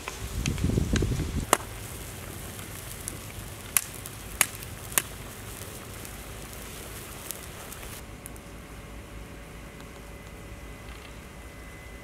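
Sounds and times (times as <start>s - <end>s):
wood fire popping: 0.0s - 11.4s
steady low hiss: 0.0s - 12.0s.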